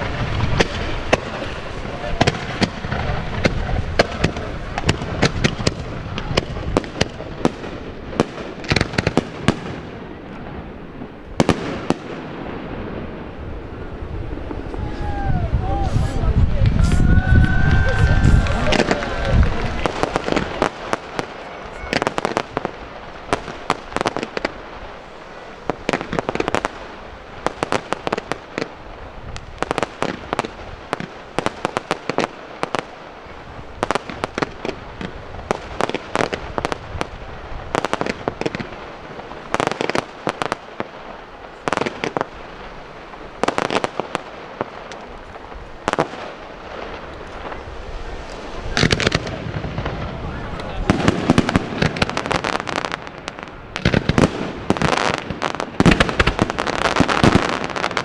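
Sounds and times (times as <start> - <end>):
fireworks fountain hiss: 0.0 - 58.0
fireworks popping and banging: 0.0 - 58.0.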